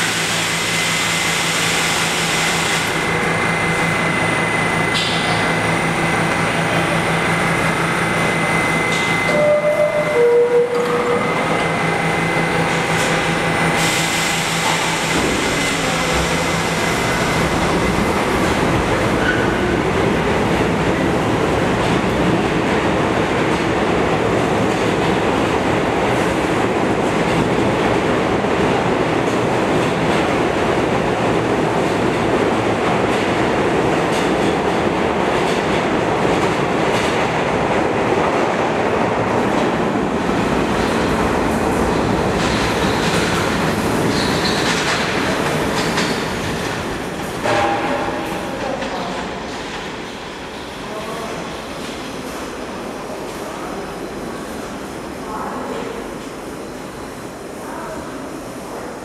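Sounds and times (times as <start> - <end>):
subway train rolling on rails: 0.0 - 59.0.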